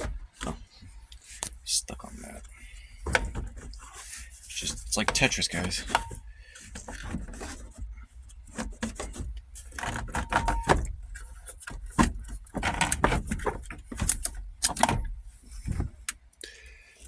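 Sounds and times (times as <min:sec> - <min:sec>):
gear shifter clicking and rattling: 0:00.0 - 0:16.3.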